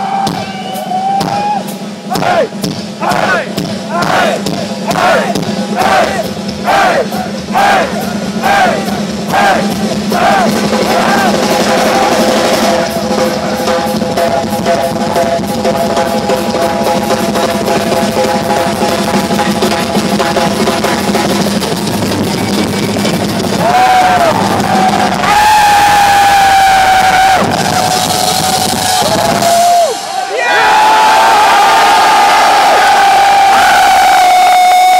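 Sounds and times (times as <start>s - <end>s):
drum kit pounding: 0.0s - 34.9s
heavy metal band playing: 0.0s - 34.9s.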